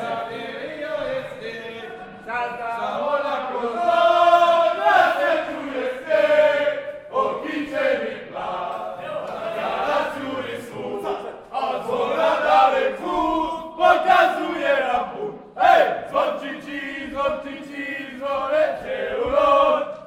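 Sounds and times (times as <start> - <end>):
men singing in unison: 0.0 - 20.0.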